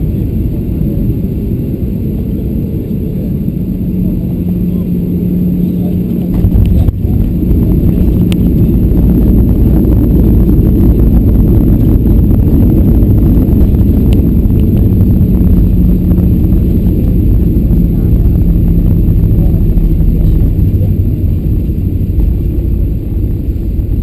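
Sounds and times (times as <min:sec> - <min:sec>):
jet engines: 0:00.0 - 0:24.0
wheels rumbling on runway: 0:00.0 - 0:24.0.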